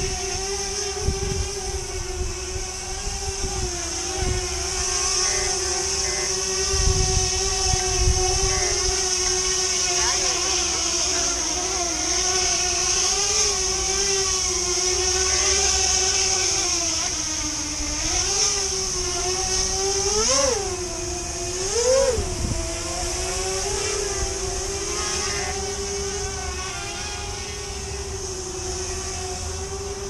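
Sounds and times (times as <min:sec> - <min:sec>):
wind rumble on microphone: 0:00.0 - 0:10.4, 0:11.1 - 0:30.0
drone propellers buzzing whine: 0:00.0 - 0:30.0.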